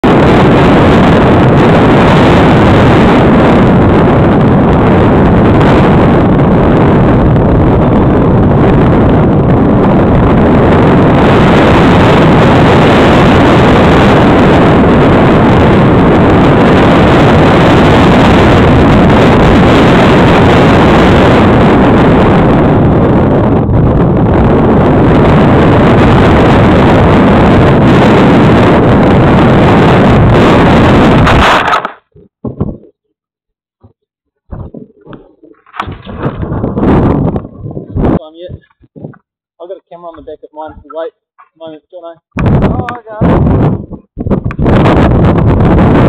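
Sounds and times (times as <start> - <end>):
wind buffeting microphone: 0.0 - 33.2, 33.8 - 46.0.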